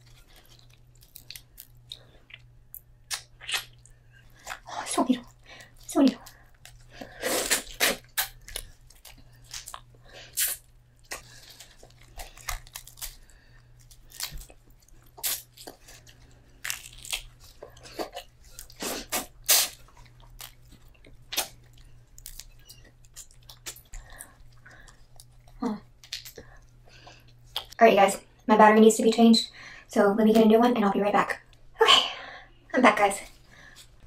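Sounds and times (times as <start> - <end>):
person crunching and chewing food: 0.0 - 27.8.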